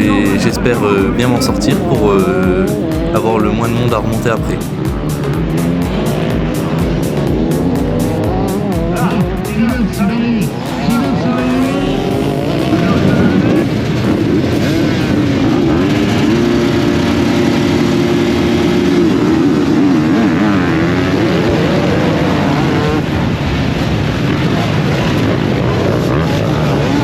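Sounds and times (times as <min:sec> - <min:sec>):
motocross bikes revving: 0:00.0 - 0:23.2, 0:24.2 - 0:27.0.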